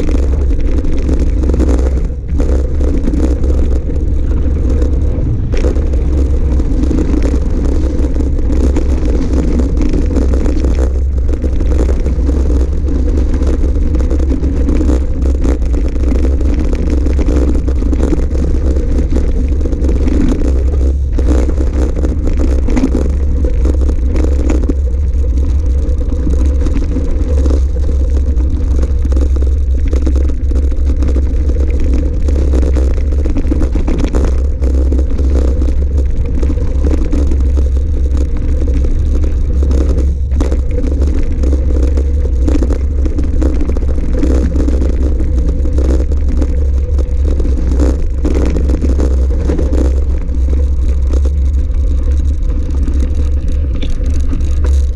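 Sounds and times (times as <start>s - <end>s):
bike rattles and clicks: 0.0s - 54.9s
wind rumble on microphone: 0.0s - 54.9s.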